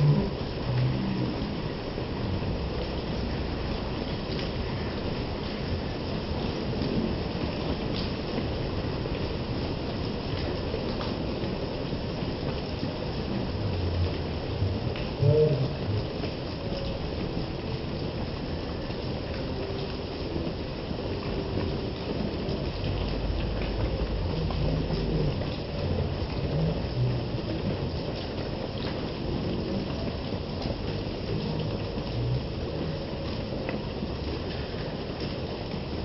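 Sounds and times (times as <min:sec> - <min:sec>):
heavy rain: 0:00.0 - 0:36.0
low rumble: 0:00.0 - 0:36.0.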